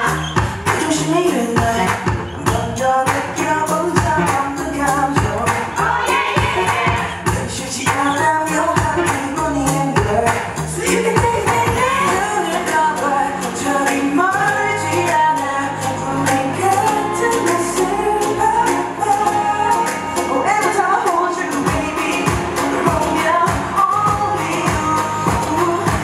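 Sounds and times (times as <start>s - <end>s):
pop dance track with vocals: 0.0s - 26.0s.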